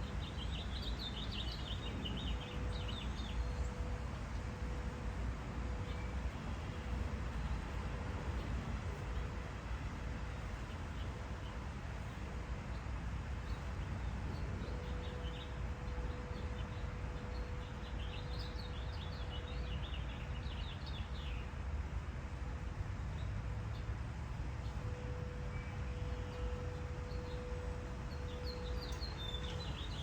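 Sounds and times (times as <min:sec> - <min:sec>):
faint steady hum: 0:00.0 - 0:30.0
garden birds chirping: 0:00.0 - 0:30.0.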